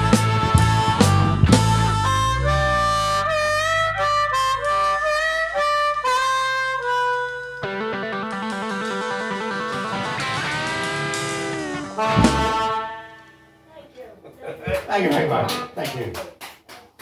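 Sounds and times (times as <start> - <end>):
blues harmonica: 0.0 - 13.7
electric guitar riff: 0.0 - 13.7, 15.4 - 15.8.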